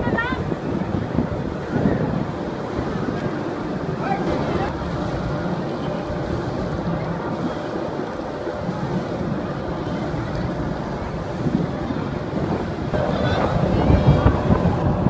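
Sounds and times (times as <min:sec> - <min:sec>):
crowded swimming pool: 0:00.0 - 0:15.0
wind buffeting the microphone: 0:00.0 - 0:15.0.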